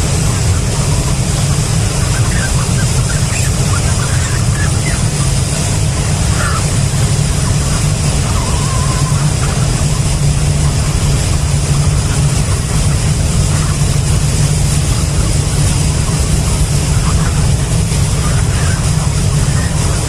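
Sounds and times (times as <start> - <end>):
constant hiss: 0.0 - 20.0
low mechanical drone: 0.0 - 20.0.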